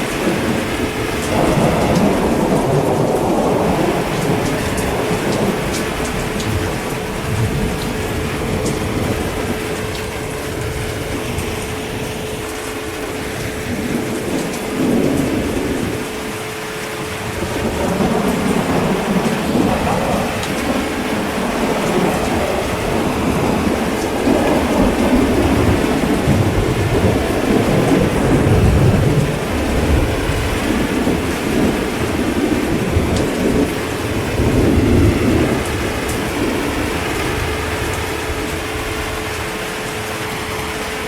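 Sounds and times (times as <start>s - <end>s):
heavy rain falling: 0.0s - 41.0s
rolling thunder rumbling: 0.0s - 41.0s.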